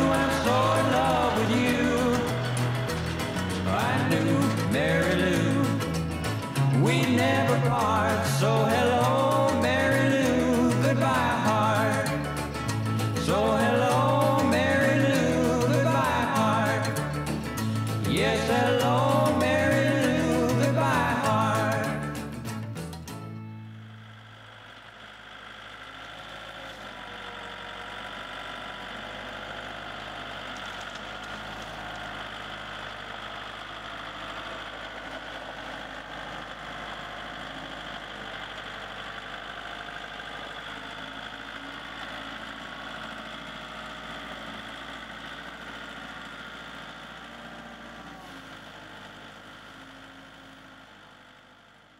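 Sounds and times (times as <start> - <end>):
diesel tractor engine running: 0.0 - 51.9.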